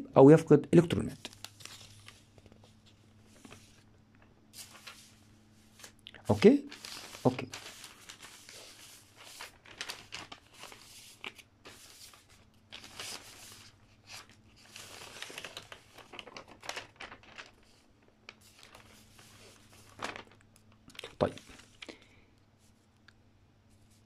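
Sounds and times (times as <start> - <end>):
paper page rustling: 0.9 - 21.9.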